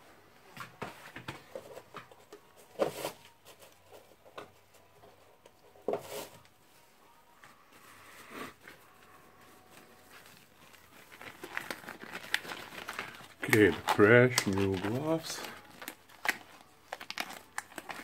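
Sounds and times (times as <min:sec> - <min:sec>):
gloves rustling: 0:00.1 - 0:18.0.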